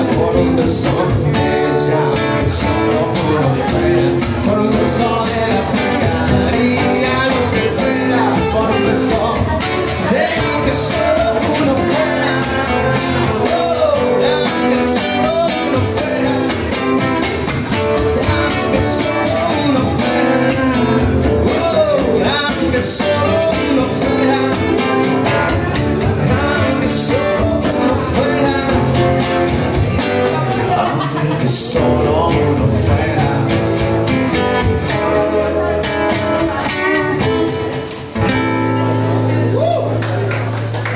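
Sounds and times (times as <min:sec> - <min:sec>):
man singing: 0:00.0 - 0:38.5
acoustic guitar: 0:00.0 - 0:40.9.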